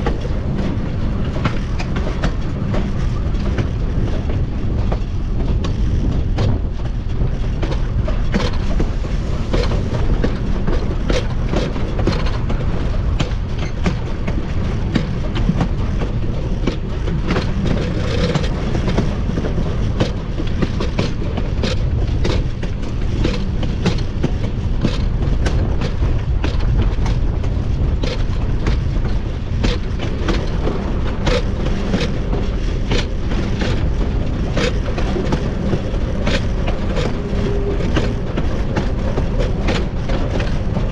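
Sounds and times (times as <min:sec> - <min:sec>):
wheels clacking over rail joints: 0:00.0 - 0:40.9
wheels rumbling on rail: 0:00.0 - 0:40.9.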